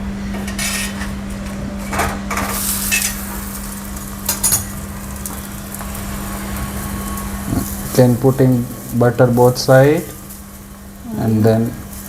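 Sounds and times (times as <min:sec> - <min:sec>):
low hum: 0:00.0 - 0:12.0
flatbread sizzling on a griddle: 0:02.3 - 0:12.0.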